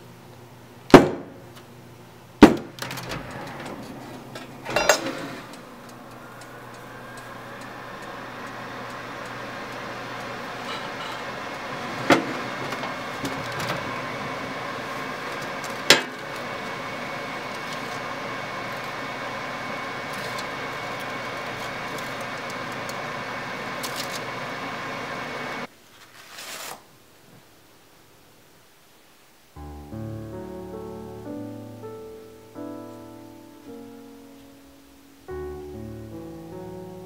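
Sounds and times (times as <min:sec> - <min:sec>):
oven humming: 0:00.0 - 0:25.7, 0:29.6 - 0:37.0.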